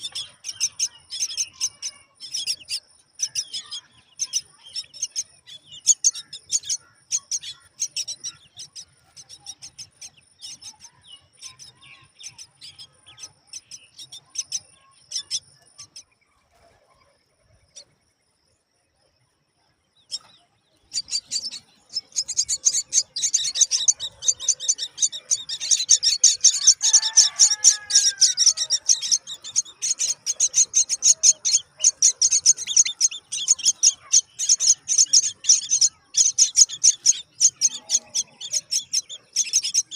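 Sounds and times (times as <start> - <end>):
nestlings begging chirps: 0.0 - 16.1, 20.0 - 39.9.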